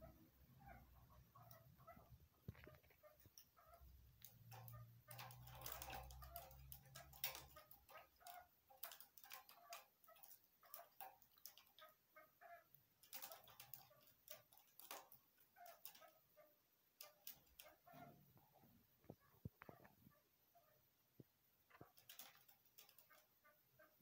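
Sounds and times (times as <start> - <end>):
partridges clucking: 0.6 - 20.1, 21.7 - 24.0.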